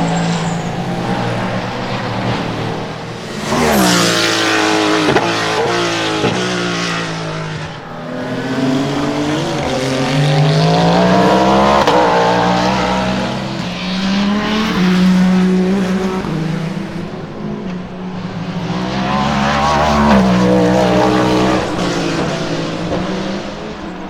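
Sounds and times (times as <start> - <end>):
racing car engine shifting gears: 0.0 - 24.0.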